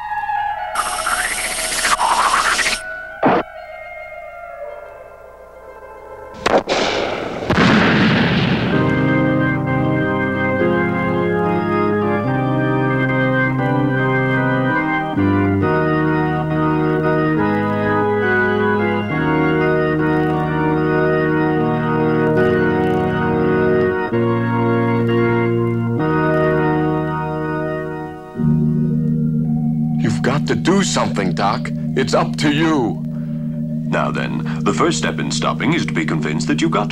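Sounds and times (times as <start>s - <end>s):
organ playing slow chords: 0.0s - 36.9s.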